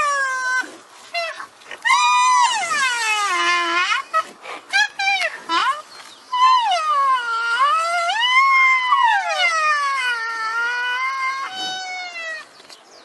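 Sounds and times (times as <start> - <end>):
rhinoceros whining calls: 0.0 - 12.5.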